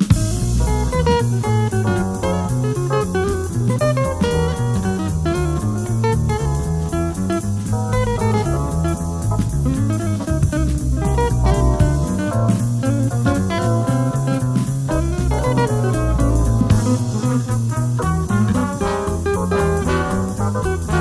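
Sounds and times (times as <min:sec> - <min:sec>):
bass line: 0:00.0 - 0:21.0
drum kit cymbal beat: 0:00.0 - 0:21.0
jazz guitar runs: 0:00.0 - 0:21.0.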